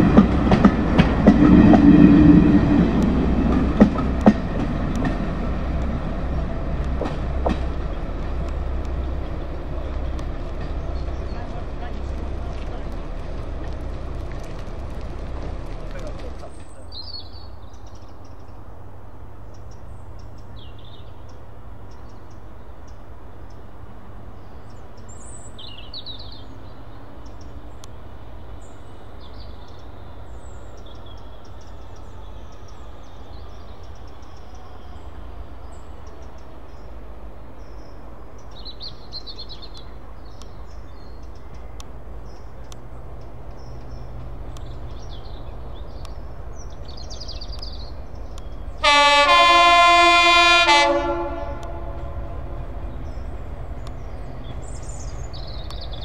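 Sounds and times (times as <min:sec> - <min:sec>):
birds chirping: 0:00.0 - 0:56.0
diesel locomotive rumbling: 0:00.0 - 0:56.0.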